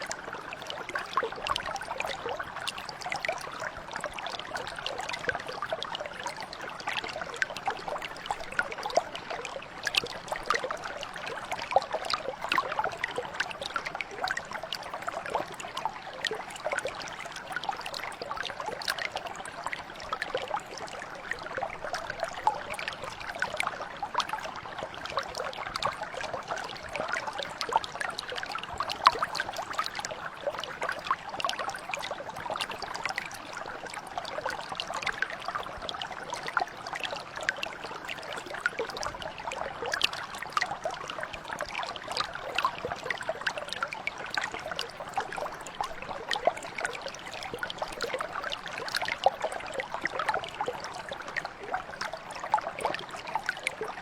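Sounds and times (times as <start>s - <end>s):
brook flowing: 0.0s - 54.0s.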